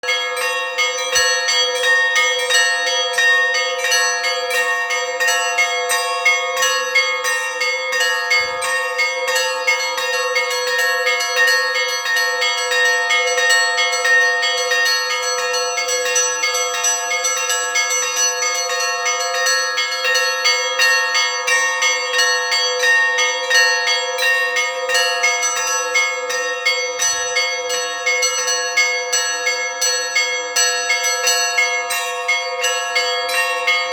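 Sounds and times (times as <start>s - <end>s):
deep bells ringing: 0.0s - 33.9s
small church bells ringing rapidly: 0.0s - 33.9s.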